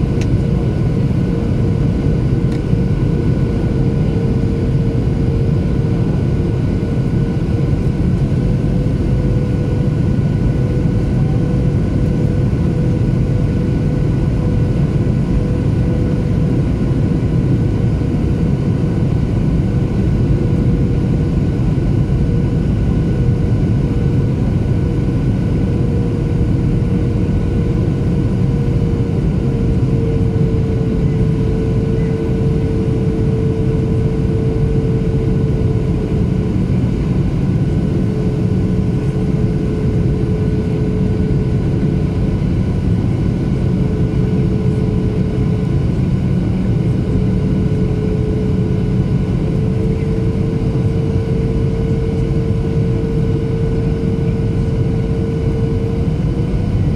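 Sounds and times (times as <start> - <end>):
airplane engines rushing: 0.0 - 56.9
steady humming tone: 0.0 - 56.9.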